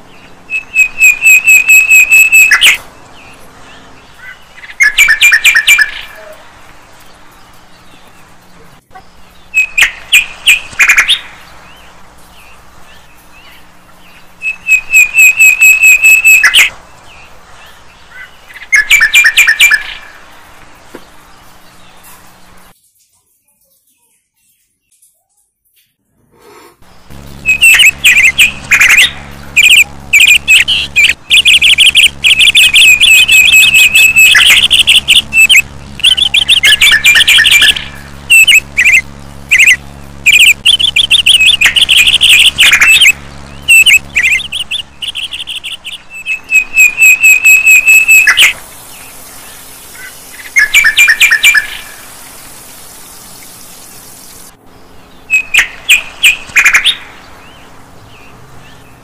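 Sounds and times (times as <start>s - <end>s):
steady low hum: 0.0s - 22.8s, 26.4s - 59.0s
small birds chirping and trilling: 0.0s - 25.9s, 26.8s - 59.0s.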